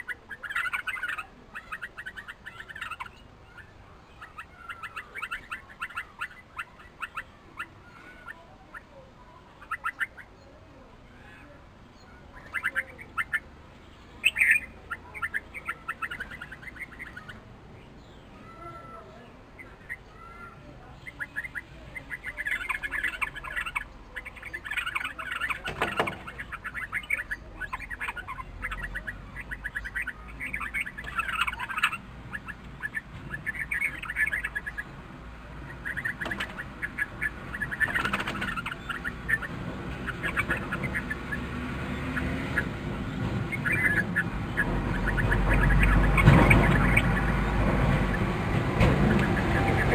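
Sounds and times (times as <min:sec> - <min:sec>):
birds chattering calls: 0:00.0 - 0:49.9.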